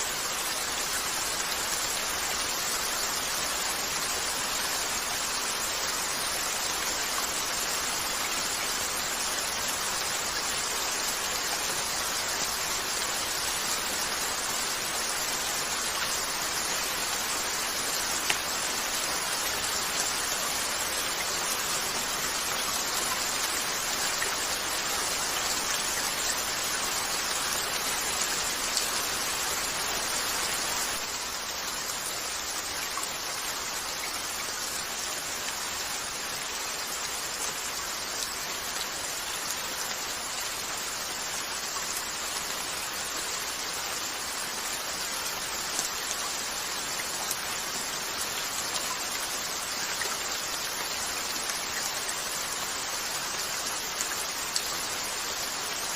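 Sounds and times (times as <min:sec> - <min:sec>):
rain on a window: 0:00.0 - 0:55.9.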